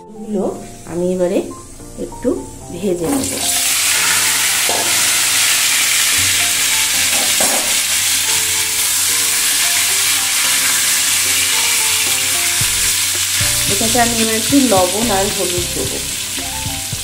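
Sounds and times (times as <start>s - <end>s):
potatoes sizzling in hot oil: 3.1s - 17.0s.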